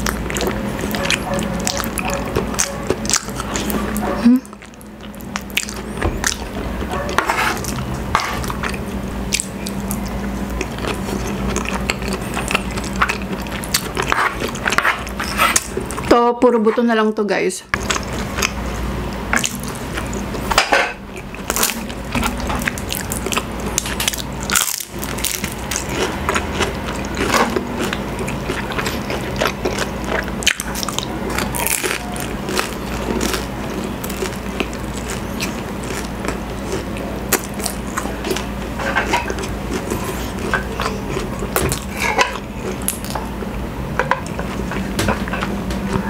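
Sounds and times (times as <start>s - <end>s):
crunchy chewing: 0.0s - 16.1s, 17.7s - 43.6s
steady low hum: 0.0s - 46.0s.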